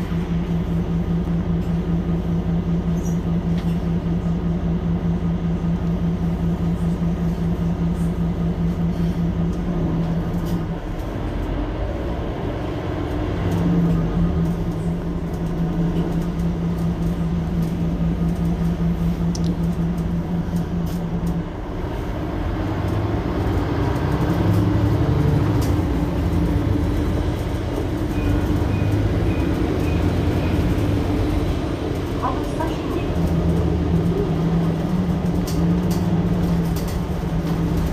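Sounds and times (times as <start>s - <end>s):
bus engine idling: 0.0s - 37.9s.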